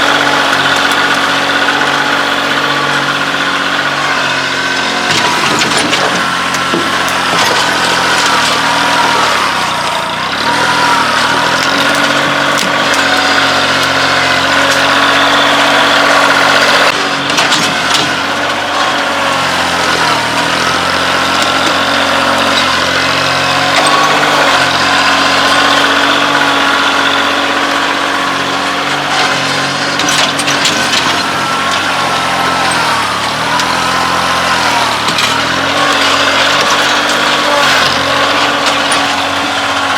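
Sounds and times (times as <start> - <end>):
tractor diesel engine working: 0.0 - 39.9.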